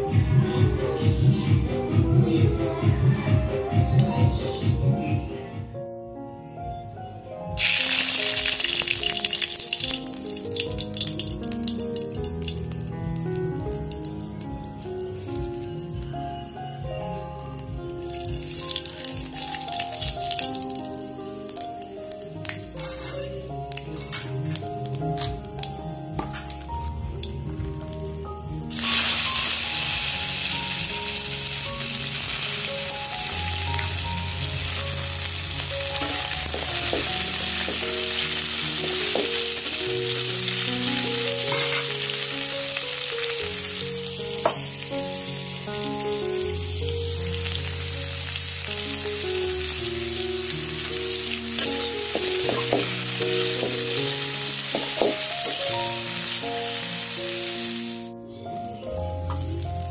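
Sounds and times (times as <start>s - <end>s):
background music: 0.0s - 59.9s
frying sizzle in hot oil: 7.6s - 16.6s, 17.5s - 28.1s, 28.7s - 58.1s.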